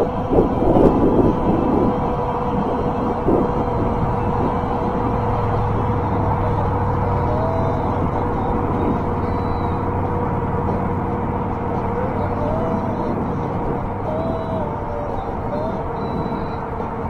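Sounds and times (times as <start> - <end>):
constant whine: 0.0 - 17.0
highway traffic noise: 0.0 - 17.0
wind rushing: 0.0 - 17.0.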